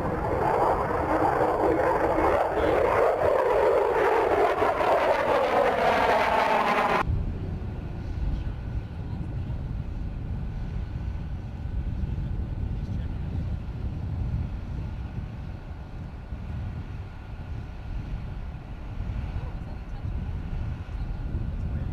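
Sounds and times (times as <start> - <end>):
jet engine whine: 0.0 - 21.9
low steady rumble: 0.0 - 21.9.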